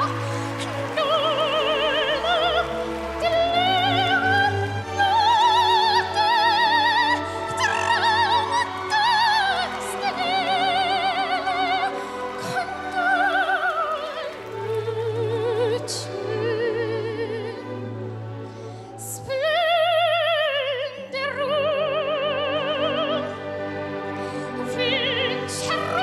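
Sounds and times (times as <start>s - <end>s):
girl singing opera: 0.0s - 17.7s, 19.0s - 23.3s, 24.5s - 26.0s.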